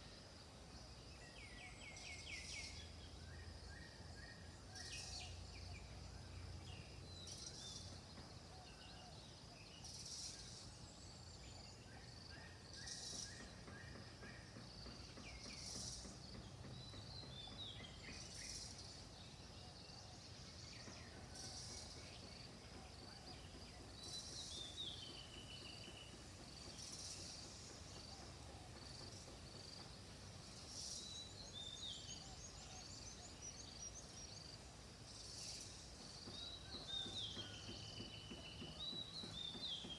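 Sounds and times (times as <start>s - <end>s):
bird calls: 1.2s - 39.9s.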